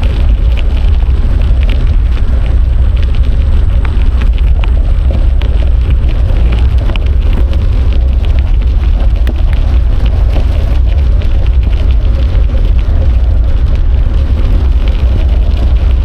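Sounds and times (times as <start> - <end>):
bicycle clicks and rattles: 0.0 - 16.0
wind buffeting microphone: 0.0 - 16.0.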